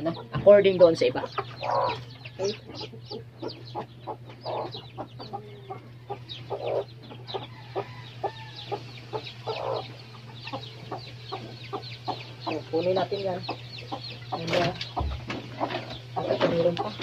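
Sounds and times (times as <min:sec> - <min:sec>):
chicks peeping: 0:00.0 - 0:17.0
hen clucking: 0:00.0 - 0:17.0.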